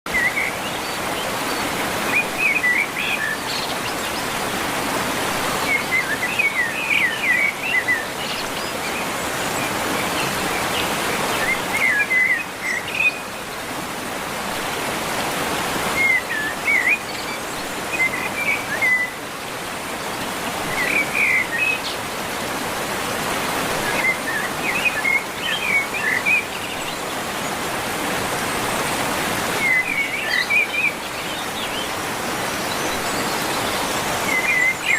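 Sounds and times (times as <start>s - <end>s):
songbirds twittering: 0.1s - 34.9s.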